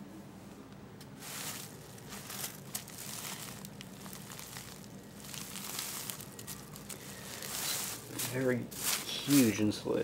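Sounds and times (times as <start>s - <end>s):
plastic sheeting crinkling: 1.2s - 9.8s.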